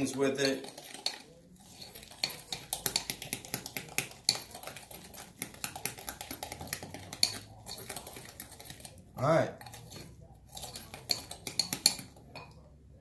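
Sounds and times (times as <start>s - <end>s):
sand mixed in a bowl: 0.0s - 11.8s.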